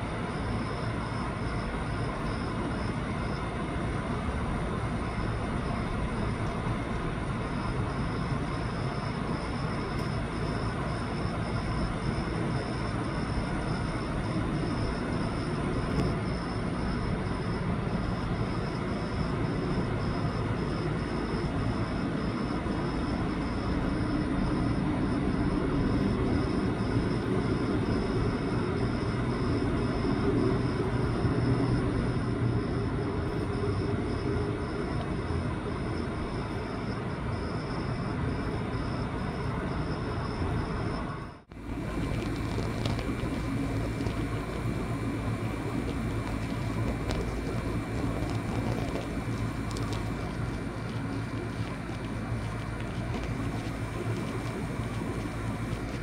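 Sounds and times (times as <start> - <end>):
outdoor rumbling noise: 0.0 - 56.0.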